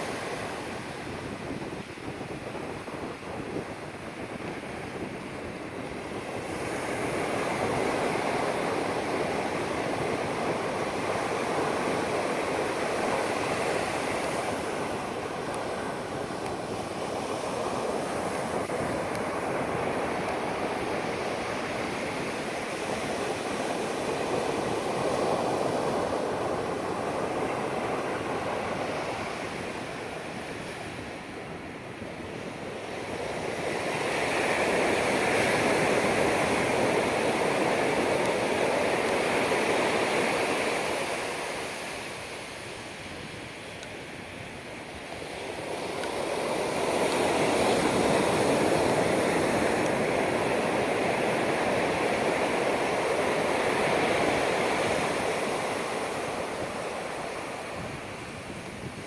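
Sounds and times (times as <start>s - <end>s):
surf washing up sand: 0.0s - 59.0s.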